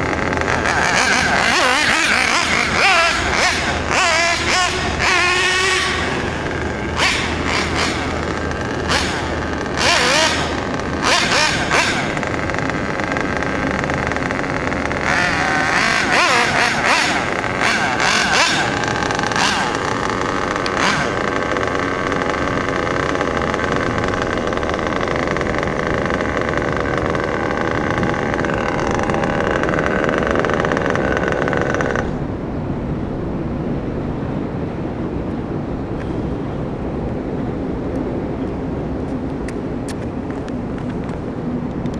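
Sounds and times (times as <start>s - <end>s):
model buggy engine revving: 0.0s - 34.3s.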